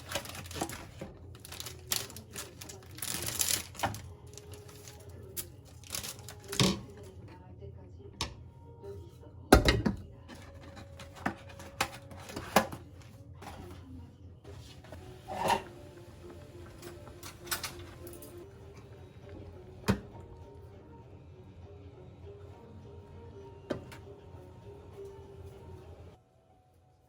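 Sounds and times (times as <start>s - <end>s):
faint background music: 0.0s - 27.0s.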